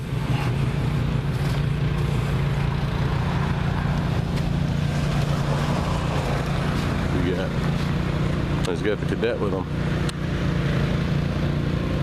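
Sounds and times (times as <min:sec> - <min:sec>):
lawn tractor engine running: 0:00.0 - 0:12.0.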